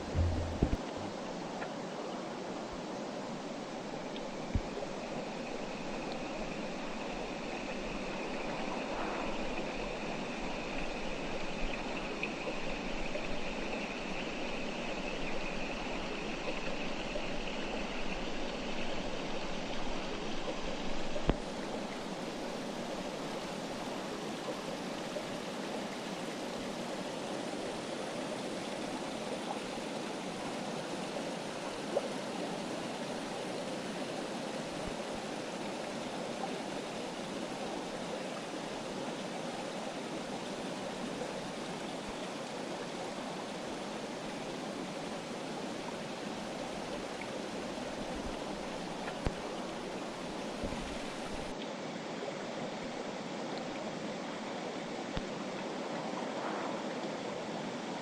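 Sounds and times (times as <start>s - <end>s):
river flowing over rocks: 0.0s - 58.0s.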